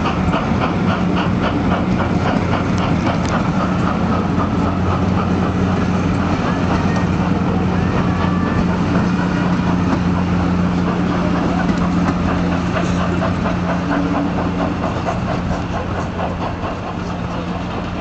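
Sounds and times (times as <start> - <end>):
train engine idling: 0.0 - 18.0.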